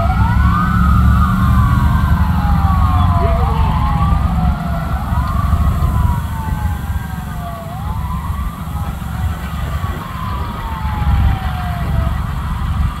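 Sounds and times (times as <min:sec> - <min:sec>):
ambulance siren wailing: 0:00.0 - 0:13.0
highway traffic rumble: 0:00.0 - 0:13.0.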